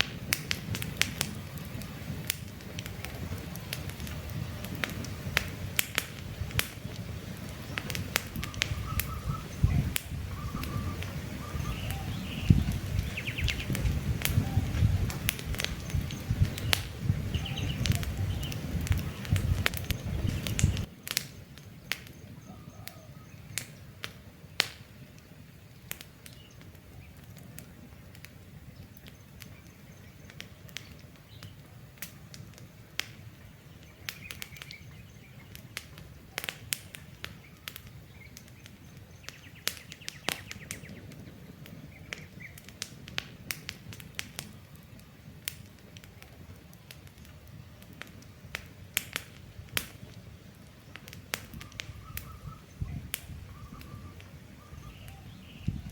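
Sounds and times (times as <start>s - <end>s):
campfire crackling and popping: 0.0s - 55.9s
birds chirping: 0.7s - 42.8s, 48.2s - 55.9s.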